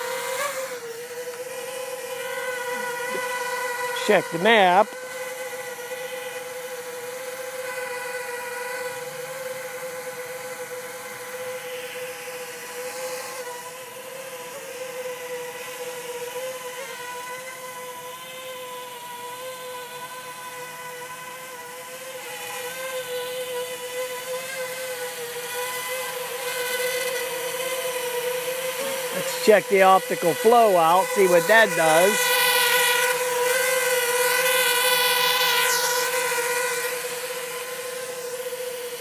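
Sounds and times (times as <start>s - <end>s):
drone propellers buzzing: 0.0s - 39.0s.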